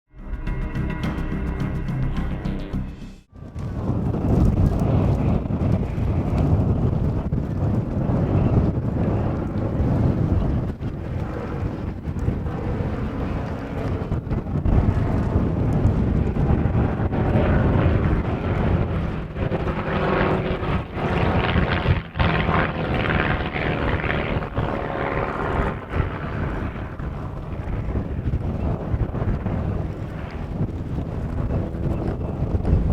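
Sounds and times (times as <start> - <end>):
propeller plane engines droning: 0.1 - 32.9
wind rumbling on microphone: 0.2 - 32.9.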